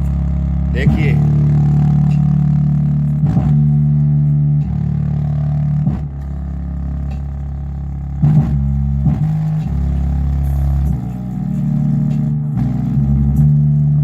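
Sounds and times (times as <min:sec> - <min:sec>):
bass-heavy music through subwoofer: 0:00.0 - 0:14.0.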